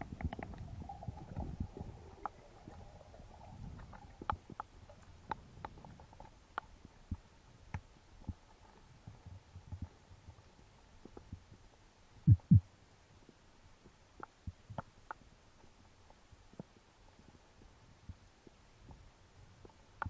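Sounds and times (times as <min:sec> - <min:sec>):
faint underwater clicks: 0:00.0 - 0:20.0.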